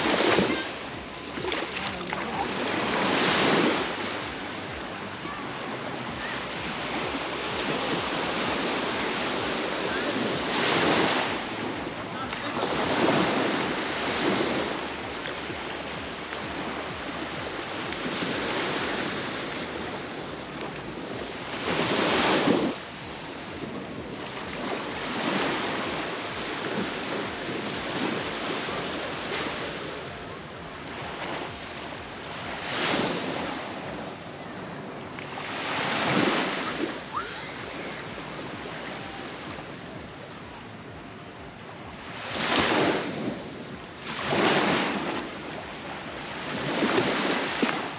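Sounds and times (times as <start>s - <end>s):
waves breaking on beach: 0.0s - 47.9s.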